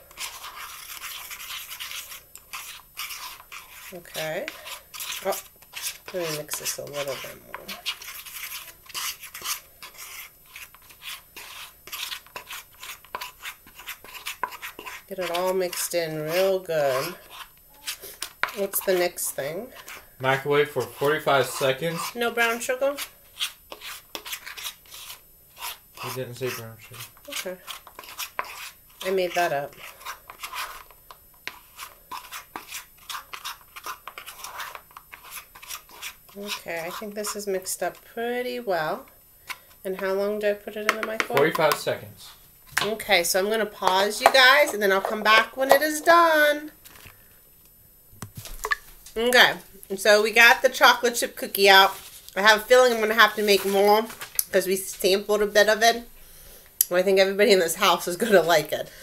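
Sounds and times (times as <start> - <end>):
spoon scraping stiff dough: 0.0 - 47.3, 48.3 - 56.1.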